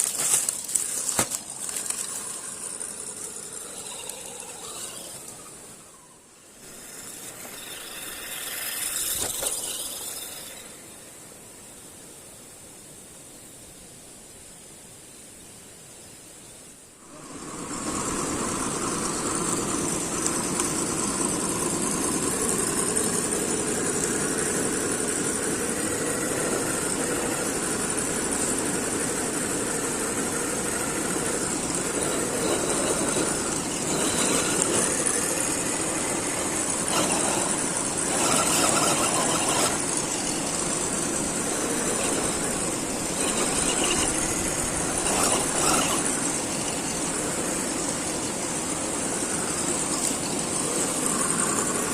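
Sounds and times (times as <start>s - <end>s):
toy car electric motor whining: 0.0s - 11.0s, 17.1s - 51.9s.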